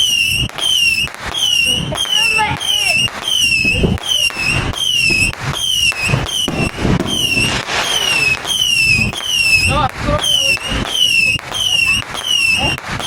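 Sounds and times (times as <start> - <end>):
firework bangs and crackle: 0.0 - 13.0
electronic alarm chirping: 0.1 - 12.8.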